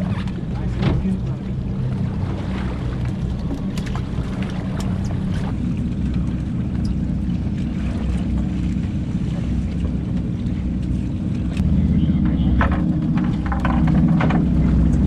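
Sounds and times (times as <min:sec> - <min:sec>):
boat engines droning: 0:00.0 - 0:15.0
water noise: 0:00.0 - 0:15.0.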